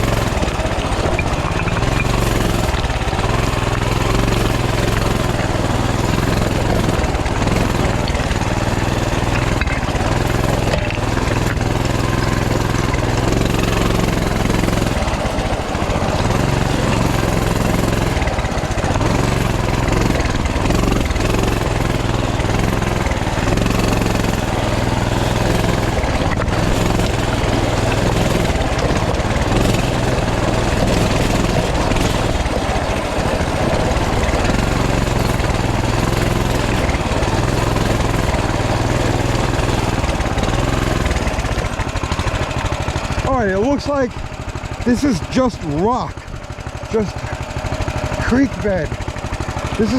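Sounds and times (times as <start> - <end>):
mini bike engine running: 0.0 - 49.9.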